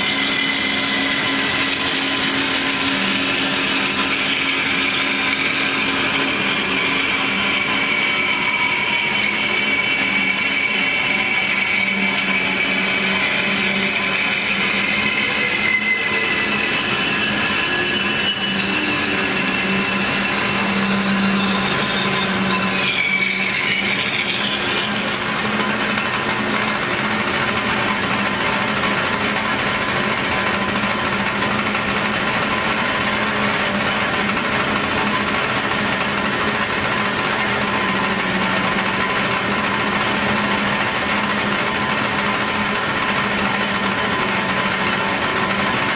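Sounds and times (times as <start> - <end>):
band saw motor hum: 0.0 - 45.9
high saw whine: 0.0 - 45.9.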